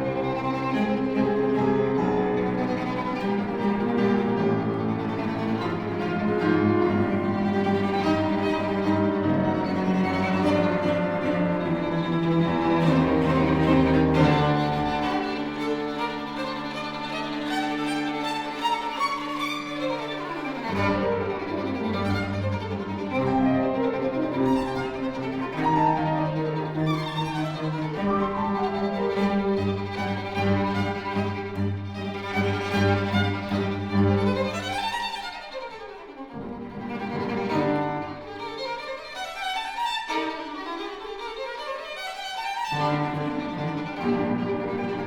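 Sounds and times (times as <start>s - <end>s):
cello notes: 0.0s - 45.0s
violin playing: 0.0s - 45.0s.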